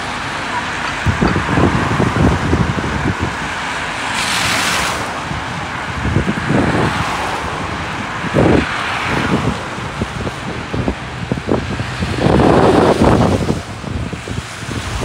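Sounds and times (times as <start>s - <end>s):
tyres hissing on wet road: 0.0s - 15.0s
wind buffeting microphone: 0.0s - 15.0s.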